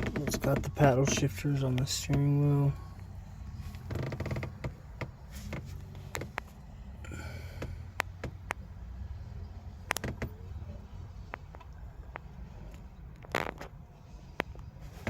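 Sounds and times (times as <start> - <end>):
clicks and taps in car cabin: 0.0 - 8.7, 9.8 - 10.5, 11.2 - 15.0.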